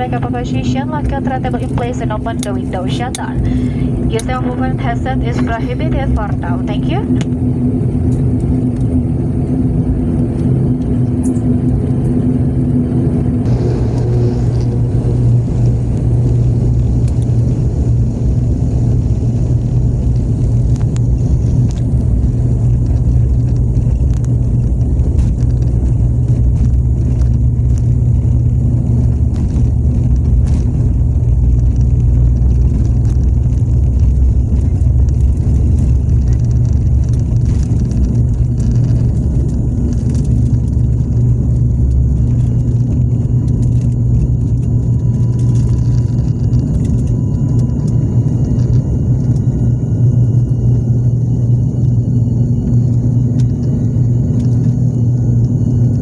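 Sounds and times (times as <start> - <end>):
airliner engines rumbling: 0.0 - 56.0.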